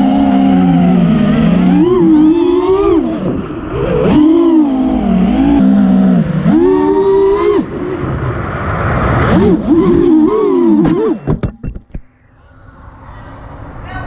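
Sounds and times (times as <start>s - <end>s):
drone motors whining: 0.0s - 8.6s, 9.3s - 12.4s.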